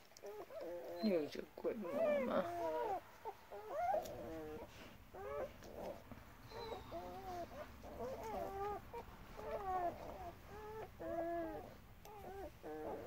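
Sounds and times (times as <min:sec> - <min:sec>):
puppies squeaking: 0:00.0 - 0:13.0.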